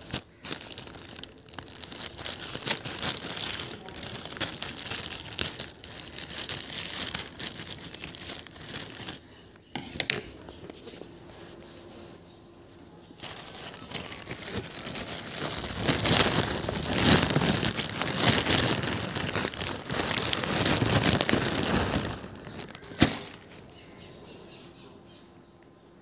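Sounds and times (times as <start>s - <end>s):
plastic packaging crinkling: 0.0s - 11.6s, 13.1s - 24.1s.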